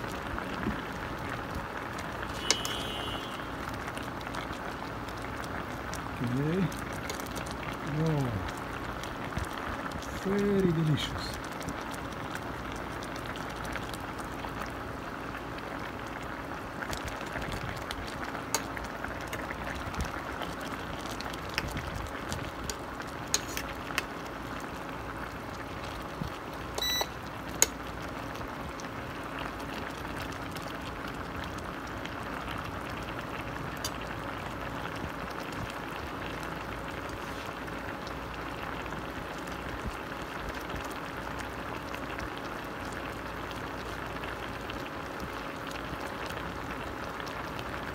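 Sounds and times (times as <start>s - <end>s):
sauce bubbling in a pot: 0.0s - 47.9s.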